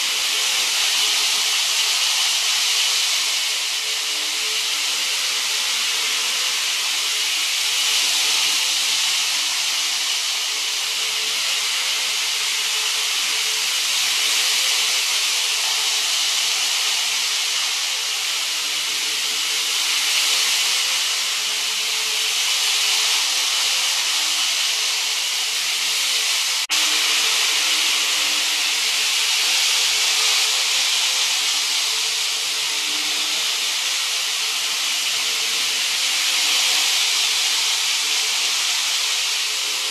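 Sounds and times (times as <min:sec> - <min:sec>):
model trains rolling hiss: 0:00.0 - 0:39.9.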